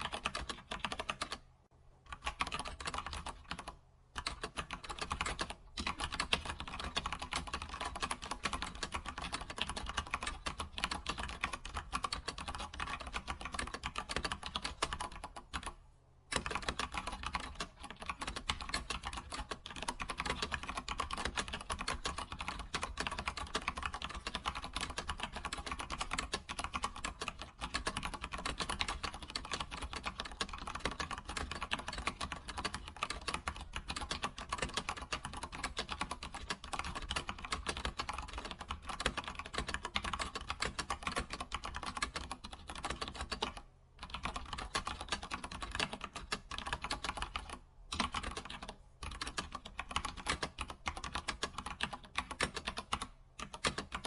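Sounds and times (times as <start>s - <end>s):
keyboard typing: 0.0s - 1.5s, 2.1s - 54.0s.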